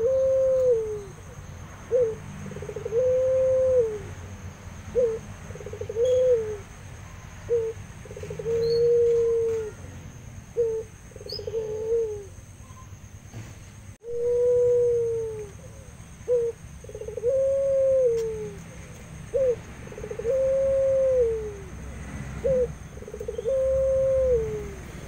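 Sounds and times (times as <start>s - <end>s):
dove cooing: 0.0s - 4.2s, 4.9s - 6.7s, 7.4s - 12.4s, 14.0s - 25.0s.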